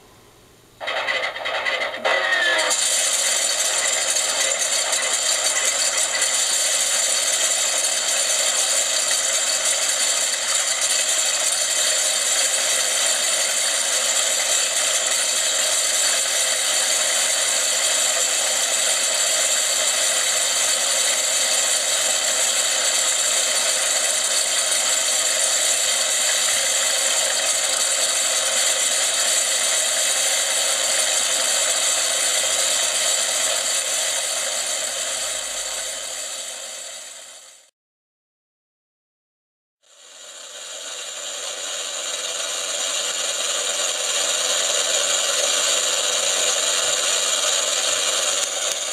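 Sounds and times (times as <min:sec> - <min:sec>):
simulated engine from small speaker: 0:00.8 - 0:37.7, 0:39.8 - 0:48.9.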